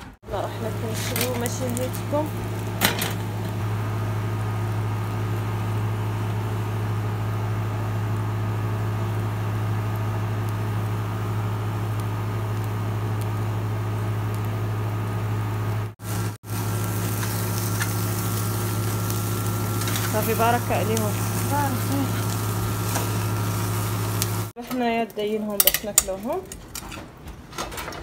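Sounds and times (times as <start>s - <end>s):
machine humming: 0.0s - 24.6s.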